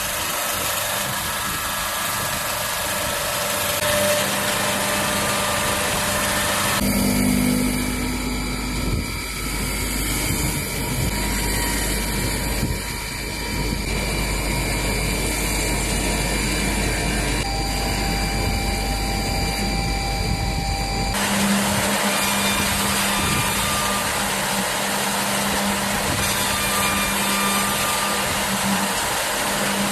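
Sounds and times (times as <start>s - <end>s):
high-pitched machine tones: 0.0s - 29.9s
woodworking machine running: 0.0s - 29.9s
steady low hum: 3.6s - 29.9s.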